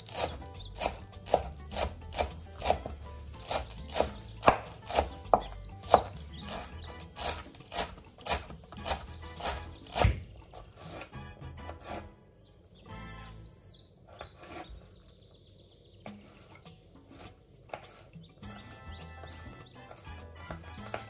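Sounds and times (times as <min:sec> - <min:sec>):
knife chopping on wooden board: 0:00.0 - 0:12.1, 0:14.1 - 0:14.8, 0:16.1 - 0:21.0.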